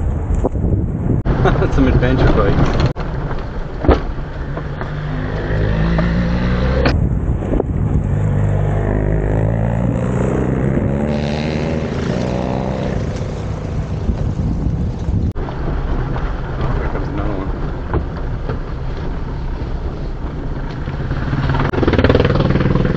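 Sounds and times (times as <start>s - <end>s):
tyre road rumble: 0.0s - 22.9s.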